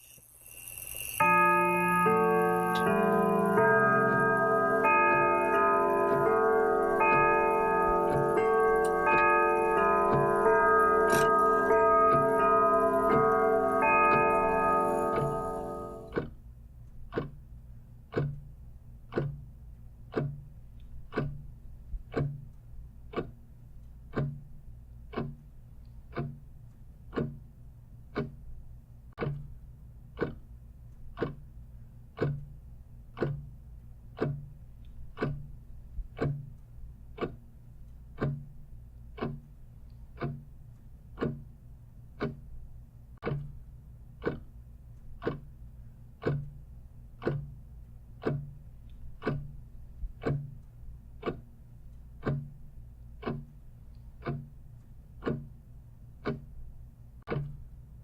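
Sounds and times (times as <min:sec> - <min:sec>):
clock ticking: 0:01.2 - 0:58.0.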